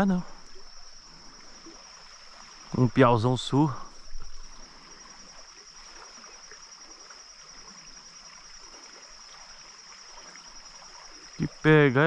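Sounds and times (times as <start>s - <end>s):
creek running: 0.0s - 12.0s
high-pitched insect drone: 0.0s - 12.0s.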